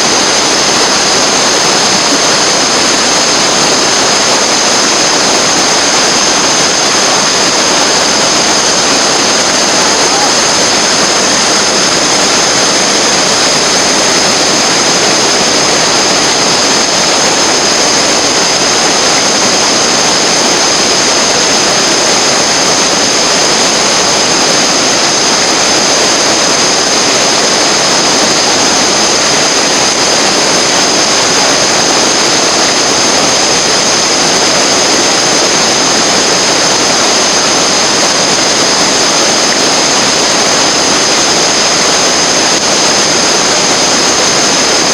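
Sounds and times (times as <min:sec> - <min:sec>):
fast-flowing water rushing: 0:00.0 - 0:44.9.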